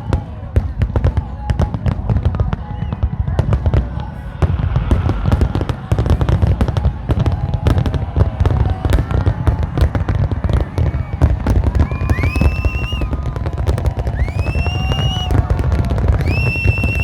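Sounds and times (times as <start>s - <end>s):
firework bangs and crackles: 0.0s - 17.0s.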